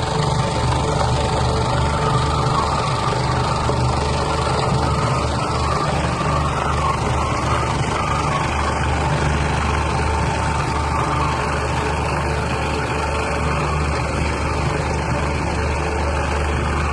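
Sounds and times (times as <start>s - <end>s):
meat grinder humming and whining: 0.0s - 16.9s.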